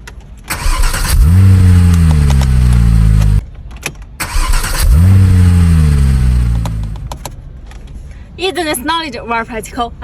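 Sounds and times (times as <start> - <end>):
car engine cranking and starting: 0.0 - 8.2.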